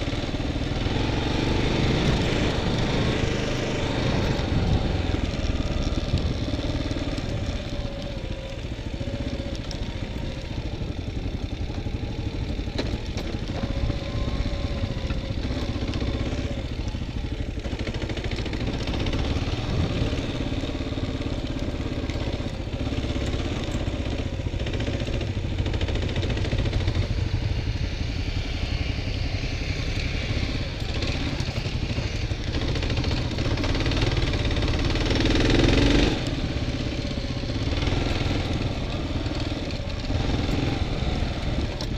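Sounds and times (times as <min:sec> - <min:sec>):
continuous low rumble: 0:00.0 - 0:41.9
motorcycle engine running: 0:00.0 - 0:41.9.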